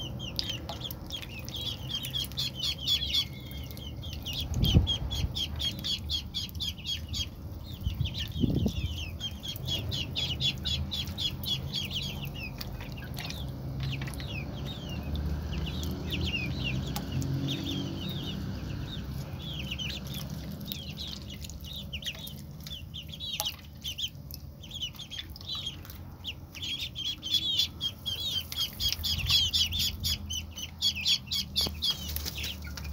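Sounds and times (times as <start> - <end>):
ducklings peeping: 0.0 - 32.9.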